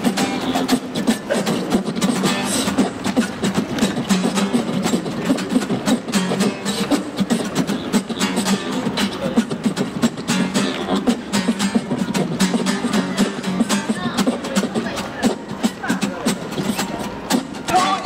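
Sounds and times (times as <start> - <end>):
beatboxing into a microphone: 0.0 - 18.0
strummed acoustic guitar: 0.0 - 18.0.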